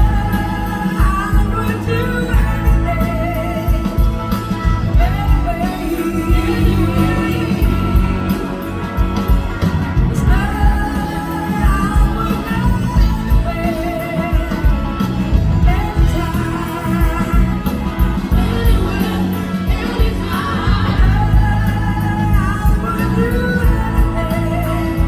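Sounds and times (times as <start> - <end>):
blues-rock band playing: 0.0 - 25.0
person singing: 0.0 - 25.0.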